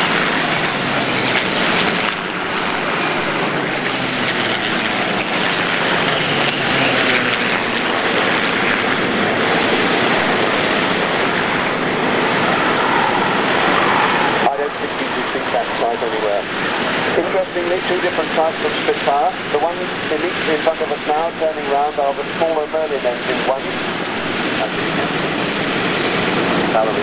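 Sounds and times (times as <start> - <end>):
propeller planes droning past: 0.0 - 27.0.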